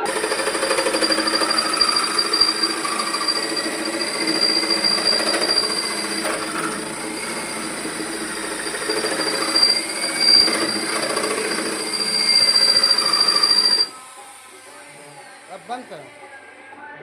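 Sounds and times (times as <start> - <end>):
electric power tool whining: 0.0 - 16.8.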